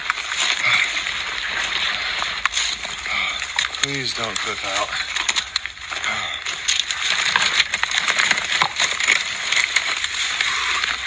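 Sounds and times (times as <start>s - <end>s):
twigs crackling underfoot: 0.0s - 11.0s.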